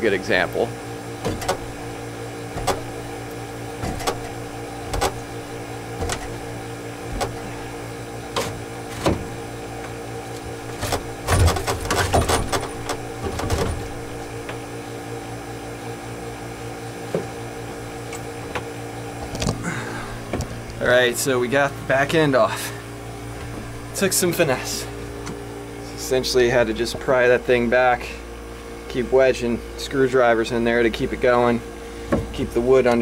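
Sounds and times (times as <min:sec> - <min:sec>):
machinery hum: 0:00.0 - 0:33.0.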